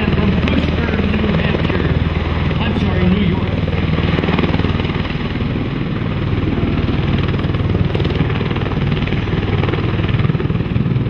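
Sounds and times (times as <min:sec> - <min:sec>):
tiltrotor aircraft rotors beating: 0:00.0 - 0:11.0.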